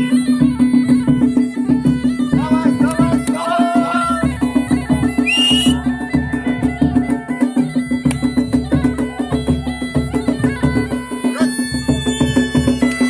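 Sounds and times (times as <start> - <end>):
bagpipe drone and melody: 0.0 - 13.0
drumbeats: 0.0 - 13.0.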